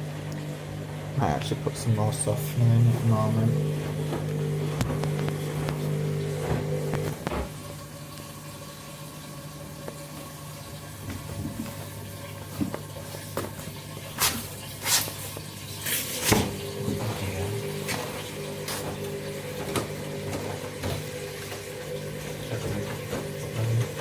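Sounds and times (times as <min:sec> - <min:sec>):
washing machine hum: 0:00.0 - 0:24.0.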